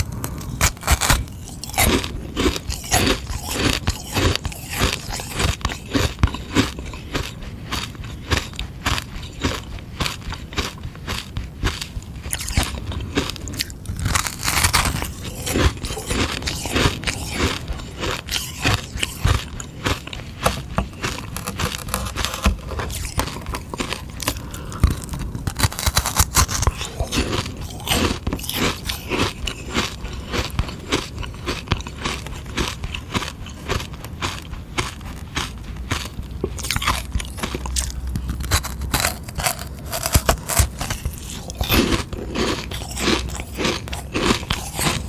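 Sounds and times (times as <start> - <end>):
crunching ice lolly: 0.0 - 45.0.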